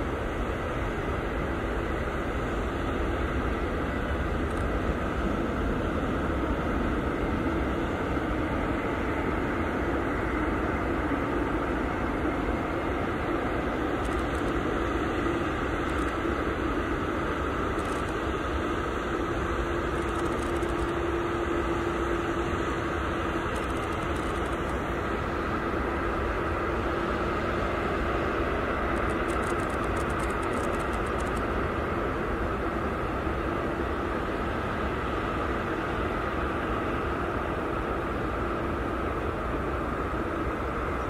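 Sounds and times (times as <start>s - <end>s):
engine whine: 0.0s - 41.0s
jet engines droning: 0.0s - 41.0s.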